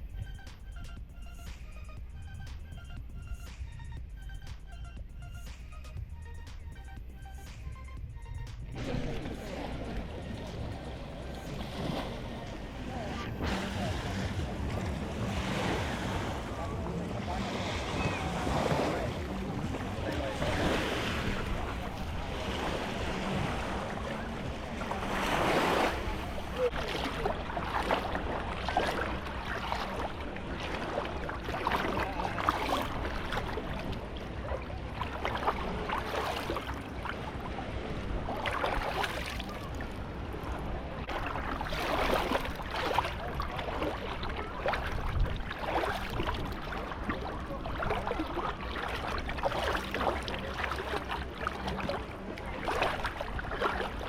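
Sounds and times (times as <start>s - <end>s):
wind rumbling on microphone: 8.0s - 54.0s
small waves breaking on beach: 8.8s - 54.0s.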